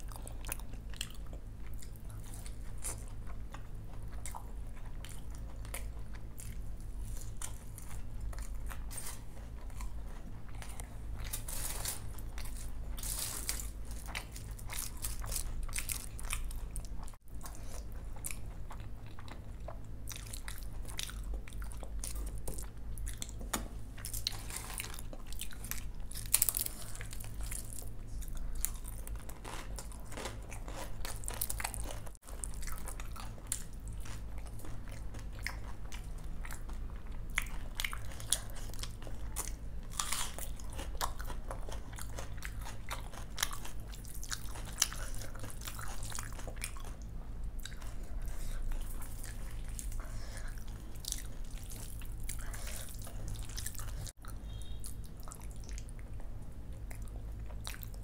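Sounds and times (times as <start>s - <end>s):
chewing and crunching snacks: 0.0s - 58.0s
steady low hum: 0.0s - 58.0s.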